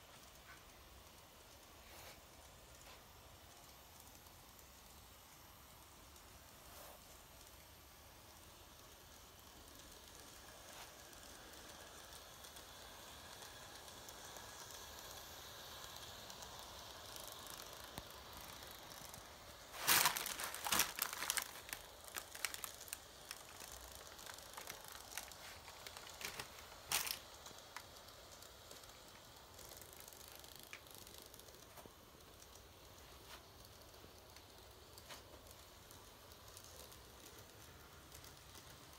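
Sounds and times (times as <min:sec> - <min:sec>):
crackling clicks: 0:00.0 - 0:38.9
model train whirring: 0:00.0 - 0:38.9.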